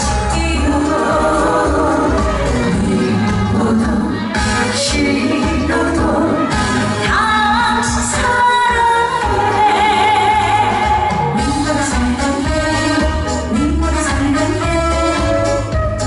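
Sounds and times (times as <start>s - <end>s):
woman singing into a microphone: 0.0s - 15.4s
accompaniment with steady beat: 0.0s - 16.0s.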